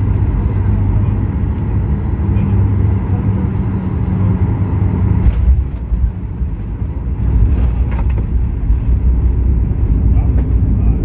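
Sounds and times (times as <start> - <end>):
low rumble of engines and wheels: 0.0 - 11.0.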